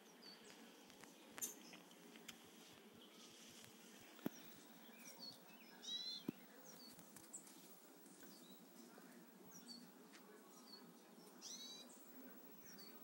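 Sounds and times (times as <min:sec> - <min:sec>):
faint bird chirps: 0:00.0 - 0:01.9, 0:02.9 - 0:13.0
low steady hiss: 0:00.0 - 0:13.0.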